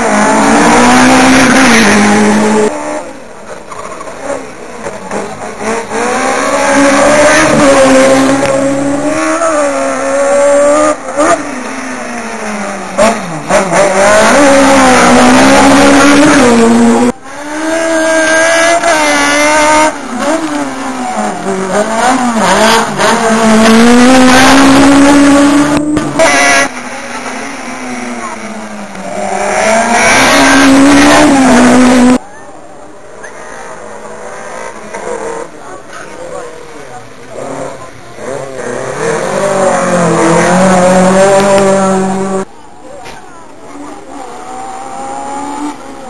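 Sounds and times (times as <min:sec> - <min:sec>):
rally cars racing past: 0:00.0 - 0:32.2, 0:33.0 - 0:42.5, 0:43.6 - 0:46.0.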